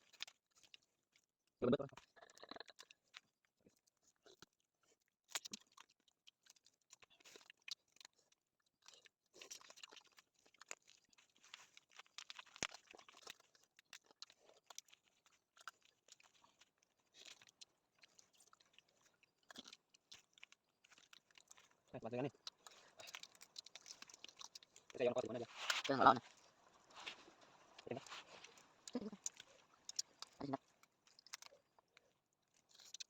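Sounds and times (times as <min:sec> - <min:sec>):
person crunching and chewing: 0:00.0 - 0:01.3, 0:02.0 - 0:33.0
small clicks and crackles: 0:00.0 - 0:33.0.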